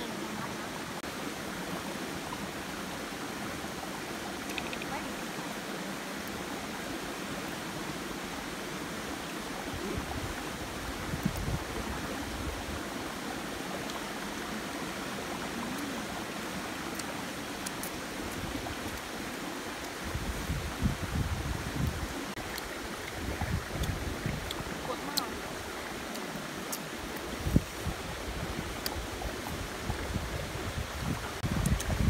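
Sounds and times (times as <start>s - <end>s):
stream running over rocks: 0.0s - 32.0s.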